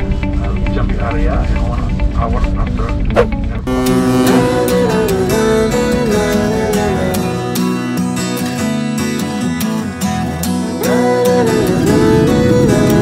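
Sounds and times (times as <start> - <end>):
acoustic guitar music: 1.4 - 13.0.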